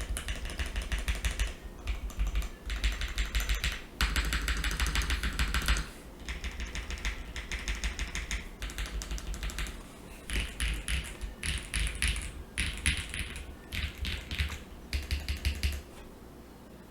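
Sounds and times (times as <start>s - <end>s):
mechanical keyboard keys clacking: 0.0s - 15.8s.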